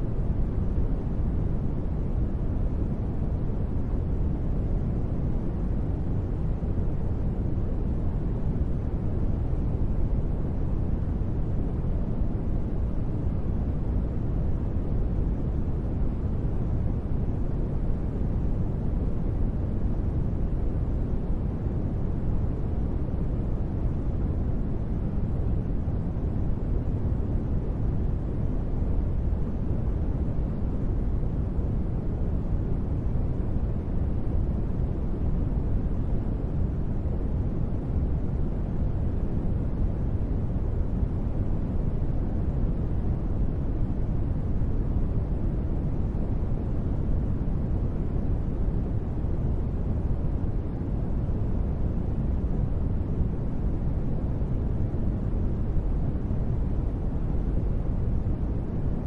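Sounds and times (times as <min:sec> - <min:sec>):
low rumbling hiss: 0:00.0 - 0:59.0.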